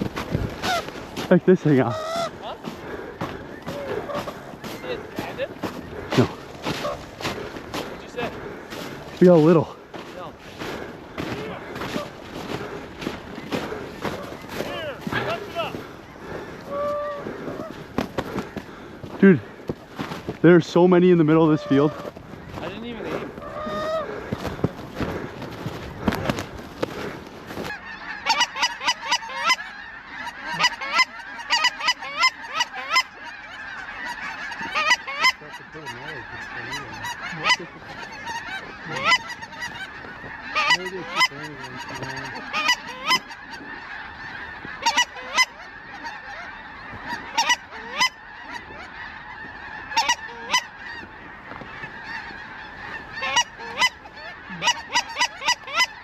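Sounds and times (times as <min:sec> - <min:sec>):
close goose calls: 0:00.0 - 0:56.0
distant geese honking chorus: 0:00.0 - 0:56.0.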